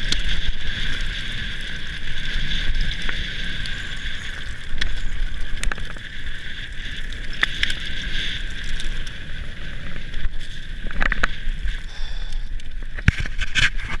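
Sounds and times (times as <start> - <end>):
bike rattling: 0.0 - 14.0.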